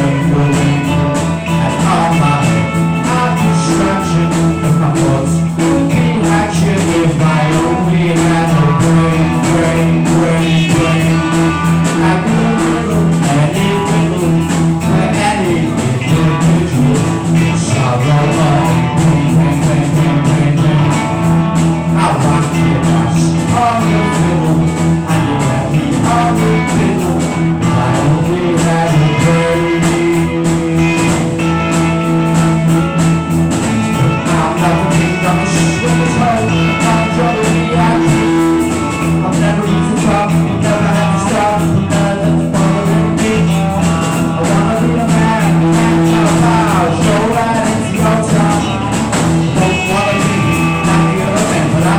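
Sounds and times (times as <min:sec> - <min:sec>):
rock music with guitar: 0:00.0 - 0:51.9.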